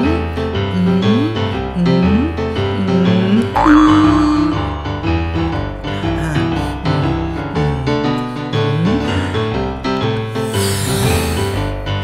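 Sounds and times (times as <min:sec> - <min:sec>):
piano background music: 0:00.0 - 0:12.0.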